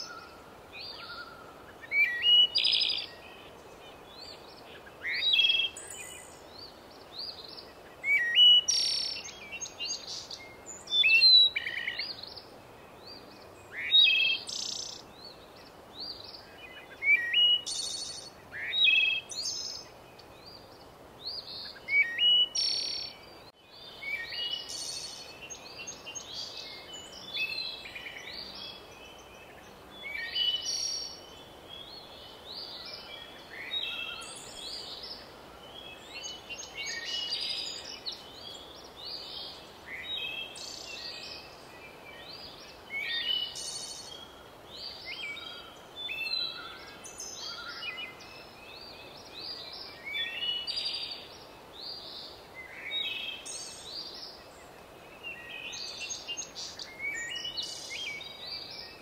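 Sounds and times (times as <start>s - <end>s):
birds chirping and twittering: 0.0s - 59.0s
faint steady hiss: 0.0s - 59.0s.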